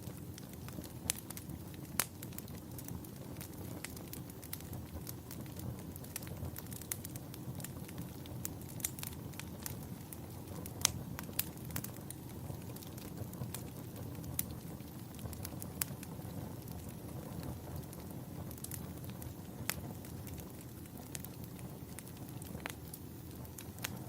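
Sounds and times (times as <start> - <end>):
burning wood crackling and popping: 0.0 - 24.0
campfire flames rumbling: 0.0 - 24.0.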